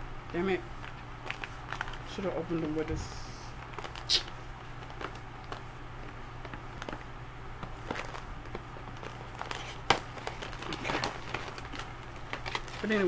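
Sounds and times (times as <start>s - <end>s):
packaging clicks and rustles: 0.3s - 2.9s, 3.6s - 13.0s.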